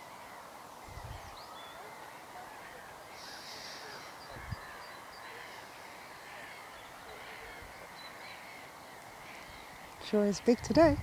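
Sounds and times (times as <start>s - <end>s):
birds calling: 0.0s - 11.0s
outdoor background noise: 0.0s - 11.0s.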